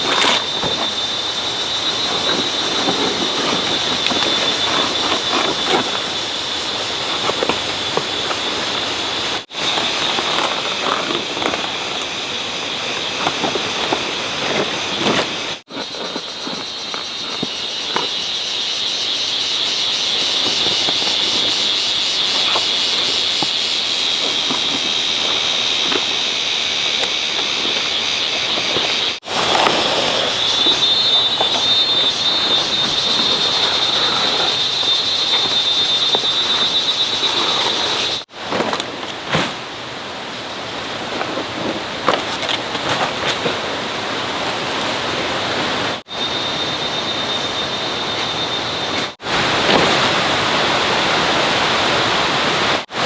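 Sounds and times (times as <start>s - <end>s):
cicada chorus droning: 0.0s - 53.0s.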